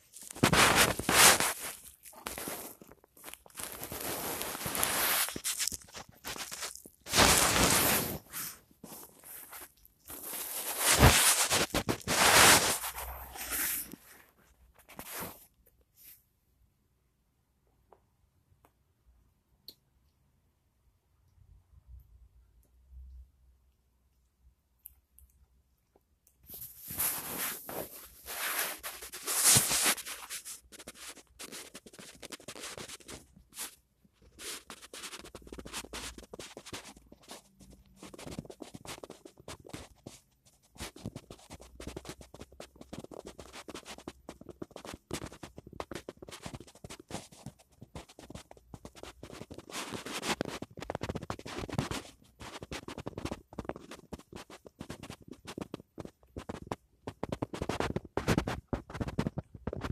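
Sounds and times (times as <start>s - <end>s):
scratchy rubbing and crackling: 0.0s - 16.3s, 25.9s - 59.9s.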